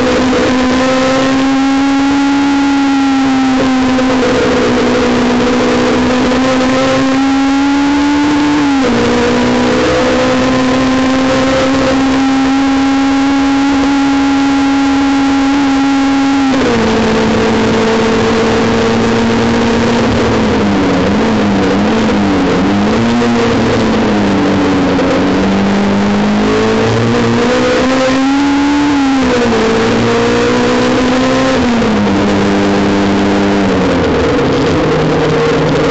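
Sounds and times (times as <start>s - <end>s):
car engine at high revs: 0.0s - 35.9s
wind and tyre noise: 0.0s - 35.9s.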